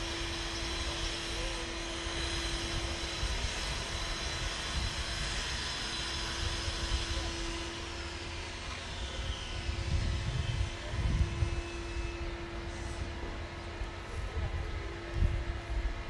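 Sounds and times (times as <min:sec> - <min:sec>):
continuous hum: 0:00.0 - 0:16.0.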